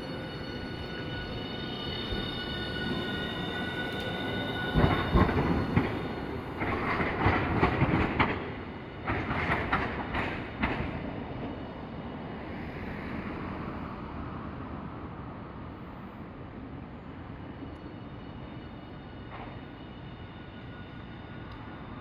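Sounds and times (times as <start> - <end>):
tram motor whine: 0.0 - 22.0.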